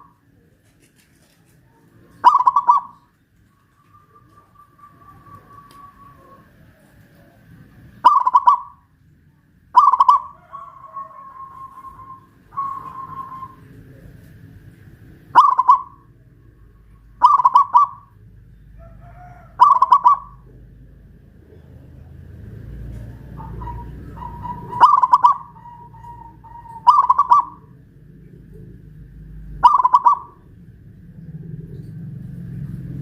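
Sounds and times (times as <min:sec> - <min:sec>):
dove cooing: 0:00.0 - 0:08.9, 0:09.7 - 0:14.6, 0:15.3 - 0:33.0.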